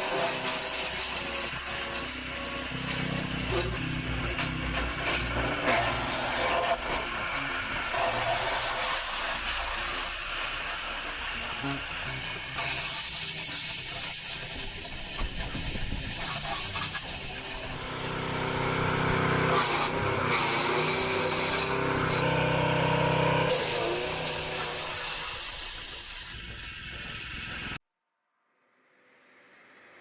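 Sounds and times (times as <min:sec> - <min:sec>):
wood-processing machine cutting wood: 0:00.0 - 0:27.8.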